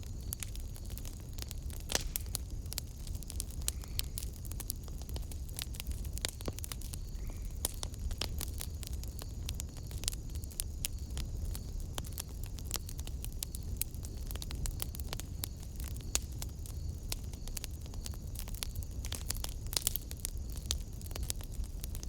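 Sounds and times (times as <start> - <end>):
low rumble of flames: 0.0 - 22.0
wood fire crackling and popping: 0.0 - 22.0.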